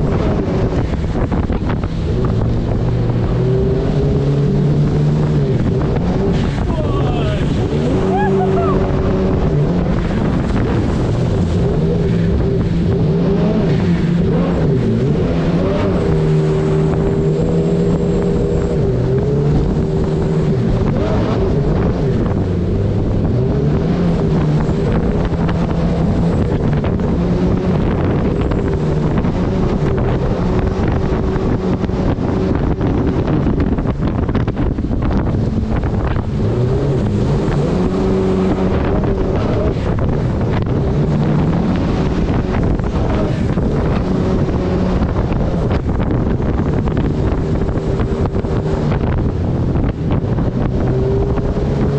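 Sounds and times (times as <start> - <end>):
boat engine running hard: 0.0 - 51.9
rushing water: 0.0 - 51.9
wind noise: 0.0 - 51.9.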